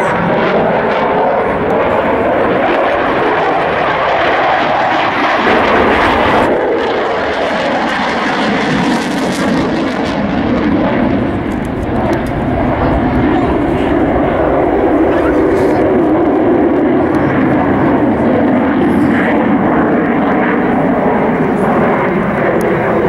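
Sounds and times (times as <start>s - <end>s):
aircraft engine in flight: 0.0s - 23.0s.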